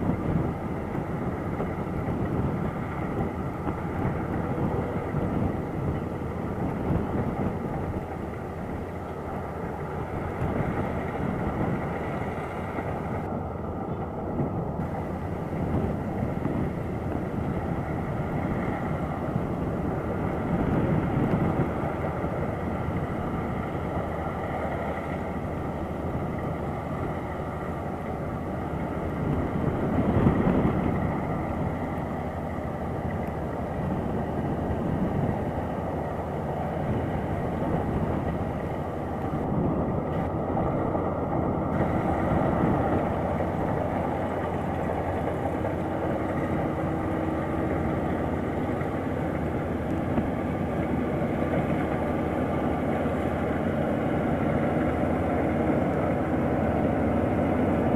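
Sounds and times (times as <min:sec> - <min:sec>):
combine harvester running: 0:00.0 - 0:57.9.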